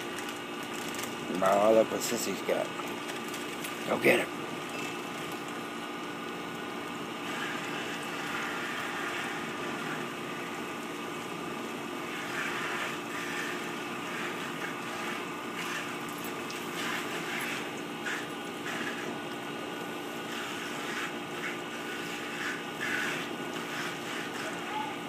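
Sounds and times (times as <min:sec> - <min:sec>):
steady motor hum: 0:00.0 - 0:25.0.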